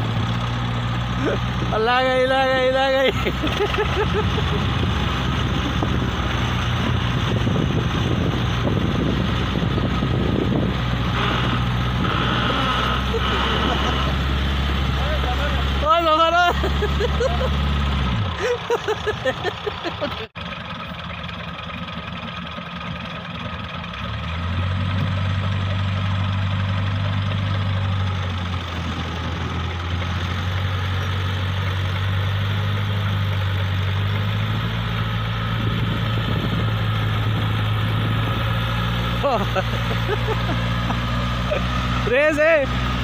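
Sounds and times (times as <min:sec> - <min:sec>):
engines droning under load: 0:00.0 - 0:43.0.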